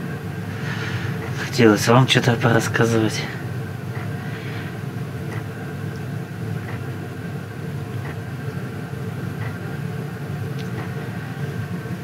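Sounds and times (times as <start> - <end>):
heater fan and burner humming: 0.0 - 12.0.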